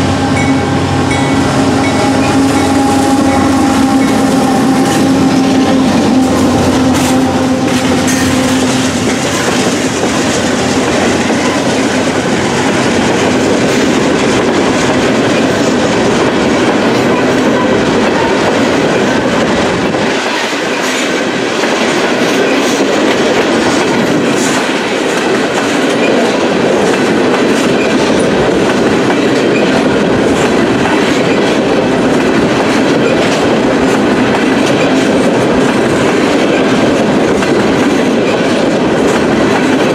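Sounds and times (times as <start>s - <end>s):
diesel locomotive hum: 0.0s - 39.9s
train wheels rumbling on rails: 0.0s - 39.9s
wheels clacking over rail joints: 0.0s - 39.9s.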